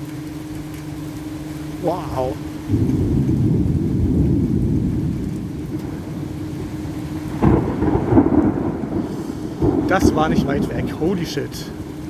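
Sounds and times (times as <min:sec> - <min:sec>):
rain: 0:00.0 - 0:12.0
thunder rumbling: 0:01.6 - 0:12.0
loud thunder peal: 0:01.8 - 0:12.0.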